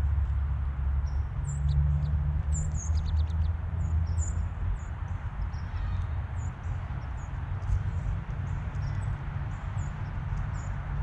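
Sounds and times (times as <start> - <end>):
birds chirping: 1.0 - 11.0.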